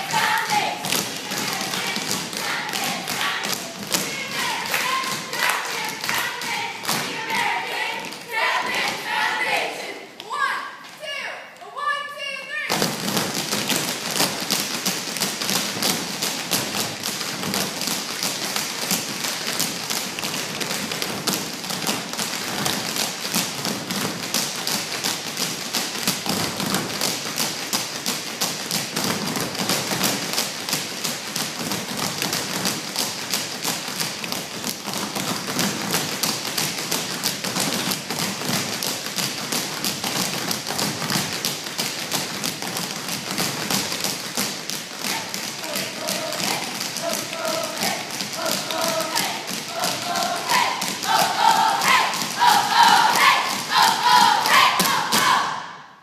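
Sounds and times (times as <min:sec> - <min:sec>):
tap shoes on stage floor: 0:00.0 - 0:09.3, 0:12.7 - 0:55.6.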